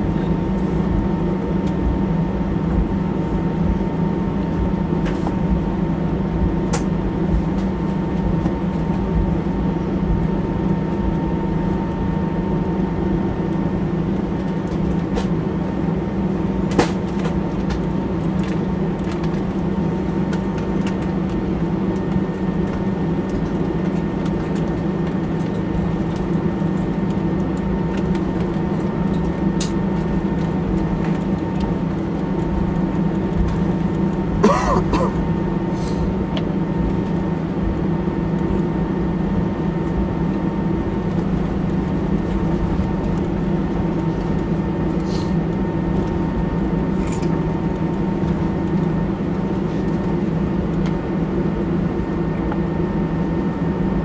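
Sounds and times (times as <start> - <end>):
airliner cabin engine hum: 0.0 - 54.0.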